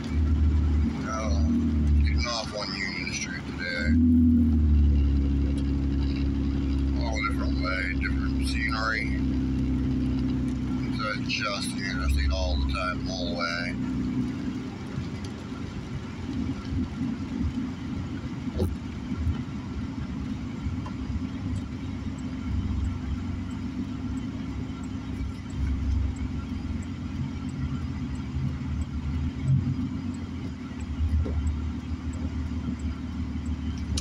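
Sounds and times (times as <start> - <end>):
tyres and engine rumbling: 0.0 - 34.0.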